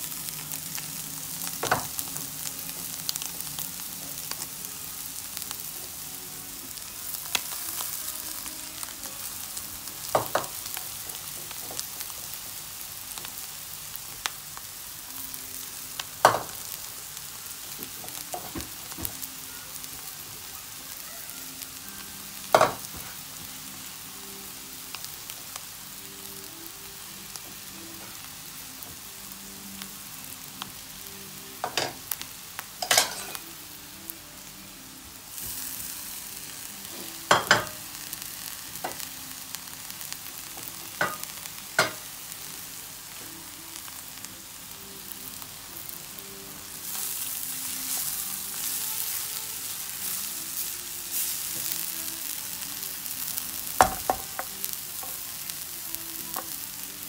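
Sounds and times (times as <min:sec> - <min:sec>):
food sizzling in a frying pan: 0:00.0 - 0:57.0.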